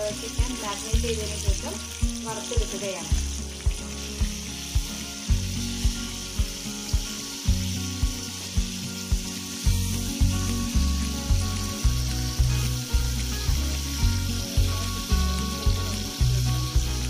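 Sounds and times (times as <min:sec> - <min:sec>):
background music with steady beat: 0:00.0 - 0:17.0
chicken sizzling in hot oil: 0:00.0 - 0:17.0.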